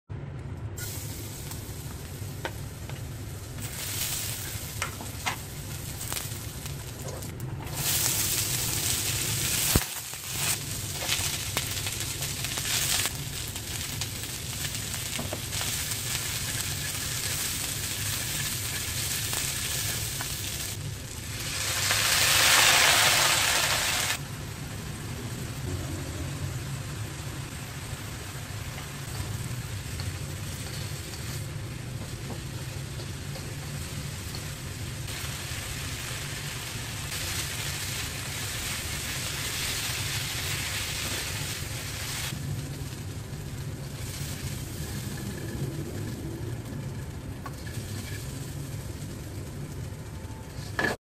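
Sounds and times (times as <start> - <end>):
food sizzling in hot oil: 0.8 - 51.0.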